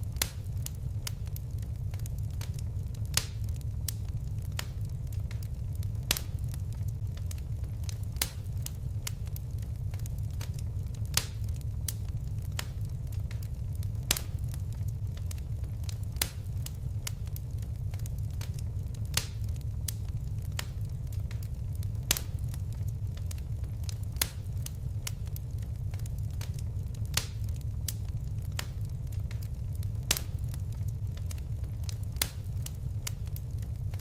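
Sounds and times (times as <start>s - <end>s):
low rumble of flames: 0.0s - 34.0s
wood fire crackling: 0.0s - 34.0s.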